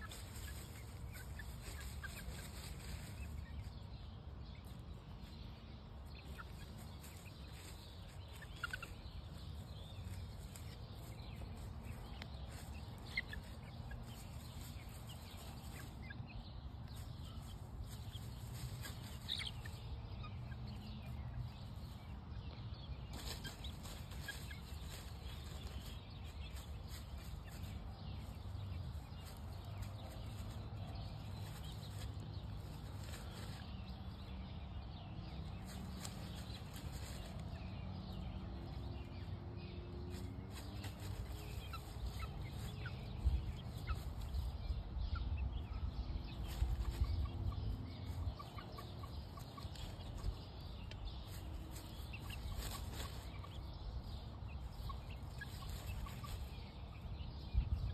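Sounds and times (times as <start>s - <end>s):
hens clucking: 0.0s - 57.9s.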